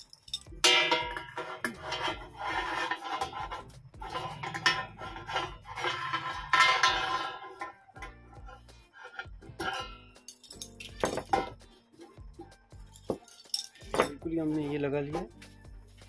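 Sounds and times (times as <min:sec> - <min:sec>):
hex key scraping and clinking: 0:00.0 - 0:11.6, 0:12.8 - 0:14.2
background music: 0:00.0 - 0:16.0.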